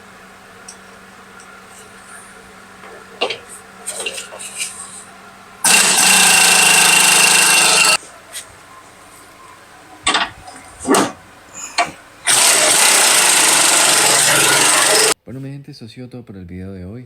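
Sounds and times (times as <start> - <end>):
power tool running: 0.0 - 15.2.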